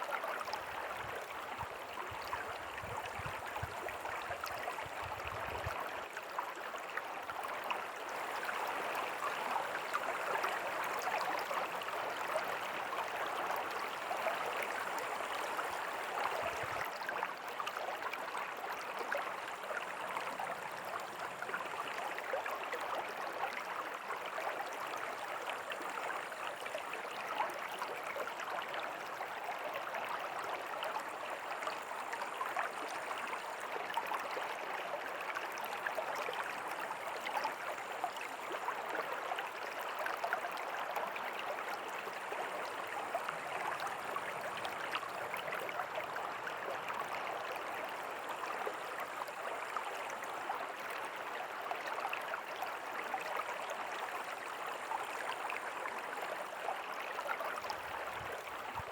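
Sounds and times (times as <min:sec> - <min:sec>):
river water rushing and babbling: 0:00.0 - 0:58.9.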